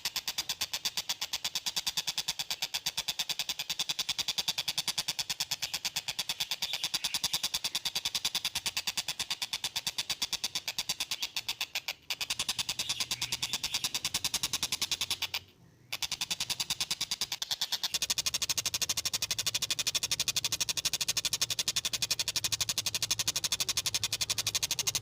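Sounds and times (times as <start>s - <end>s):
kingfisher rattling call: 0.0s - 25.0s.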